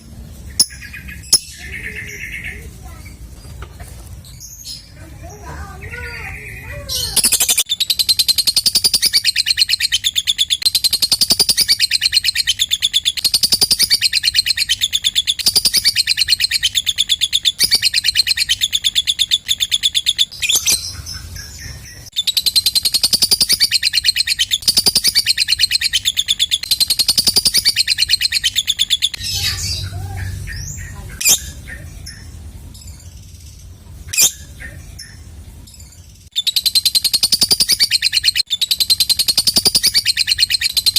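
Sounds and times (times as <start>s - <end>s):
lovebird shrill chattering: 0.5s - 3.2s, 5.6s - 40.9s.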